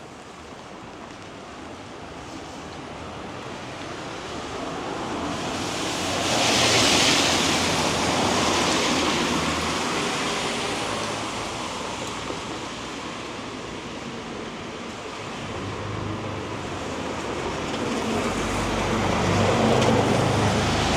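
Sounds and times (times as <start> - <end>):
steady rain: 0.0 - 20.9
tyres hissing on wet road: 0.0 - 20.9.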